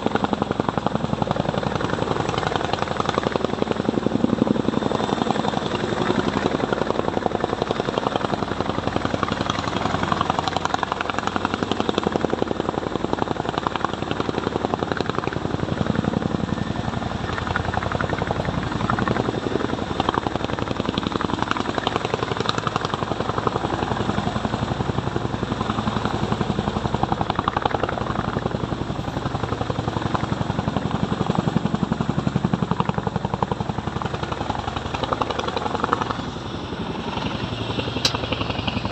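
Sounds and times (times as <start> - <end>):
helicopter engine noise: 0.0 - 38.9
helicopter rotor beat: 0.0 - 38.9.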